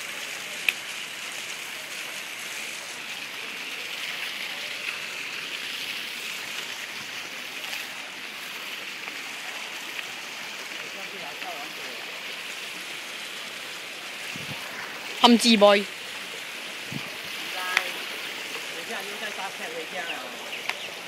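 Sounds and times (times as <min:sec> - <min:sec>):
fountain jets splashing on paving: 0:00.0 - 0:21.0.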